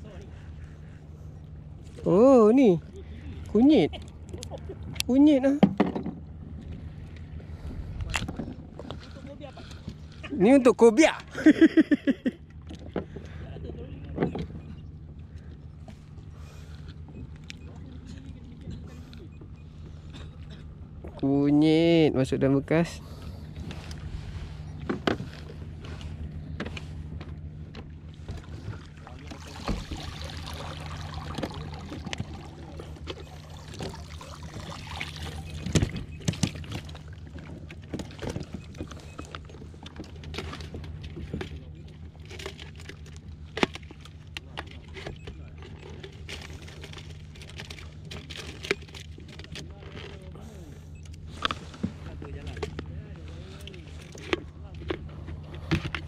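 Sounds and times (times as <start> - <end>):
water lapping against hull: 0.0 - 21.9, 22.6 - 56.0
boat motor droning: 0.0 - 56.0
steady low hum: 0.0 - 56.0.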